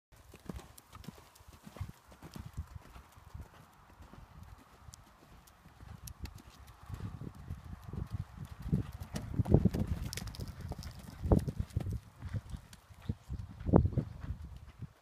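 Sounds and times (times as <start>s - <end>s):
horse hoofbeats on sand: 0.2s - 15.0s.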